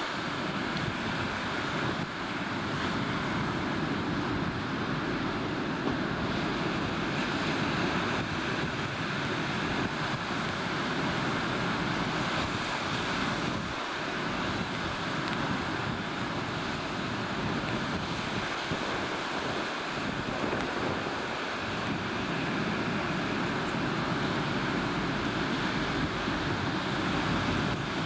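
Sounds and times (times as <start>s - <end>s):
rough choppy sea: 0.0s - 28.0s
wind rushing over microphone: 0.0s - 28.0s.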